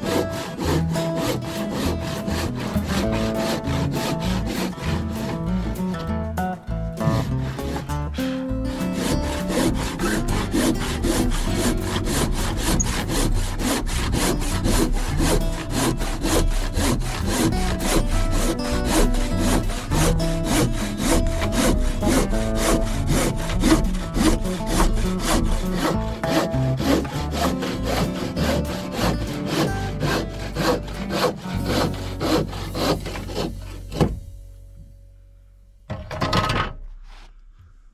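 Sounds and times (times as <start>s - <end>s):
hand saw cutting wood: 0.0s - 6.0s, 7.0s - 34.2s
background music: 0.0s - 35.9s.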